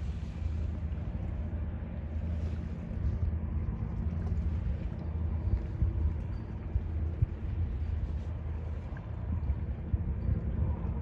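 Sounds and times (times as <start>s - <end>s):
ship engines droning: 0.0s - 11.0s
wind rumble on microphone: 0.0s - 11.0s.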